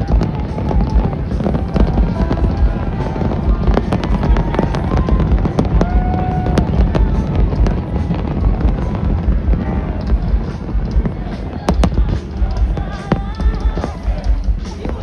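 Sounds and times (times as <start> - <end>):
fireworks booming: 0.0 - 15.0
fireworks sharp cracks: 0.0 - 15.0.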